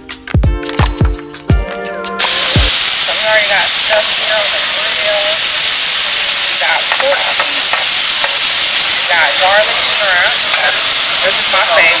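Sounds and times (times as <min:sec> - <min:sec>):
meat sizzling on grill: 0:02.2 - 0:12.0.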